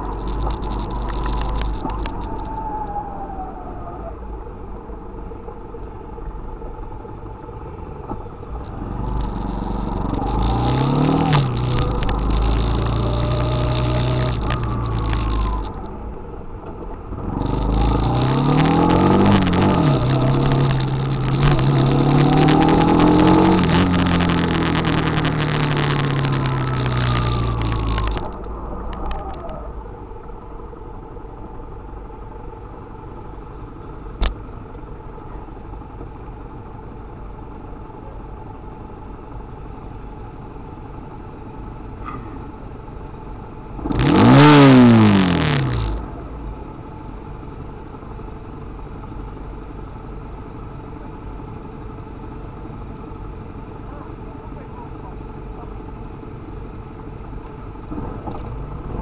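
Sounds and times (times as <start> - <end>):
motorcycle engines revving: 0.0 - 30.4, 39.9 - 59.0.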